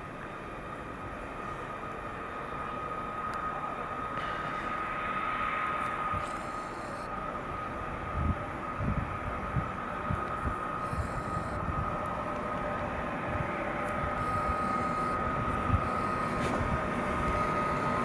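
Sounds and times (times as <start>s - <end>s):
electric locomotive high whine: 0.0s - 18.0s
train rumble: 0.0s - 18.0s.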